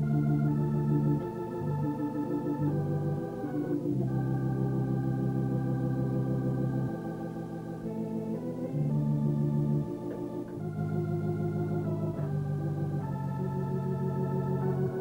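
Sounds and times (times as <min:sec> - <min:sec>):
organ chords: 0:00.0 - 0:15.0.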